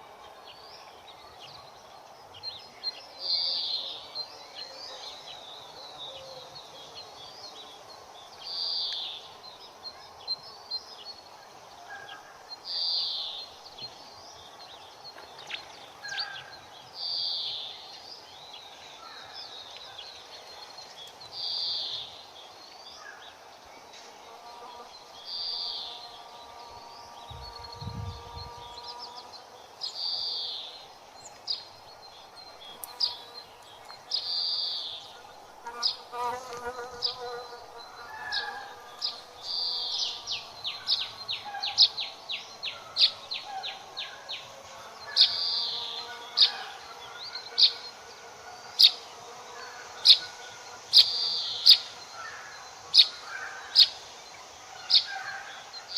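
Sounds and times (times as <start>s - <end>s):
birds chirping and tweeting: 0.0s - 55.9s
low rural background hum: 0.0s - 55.9s.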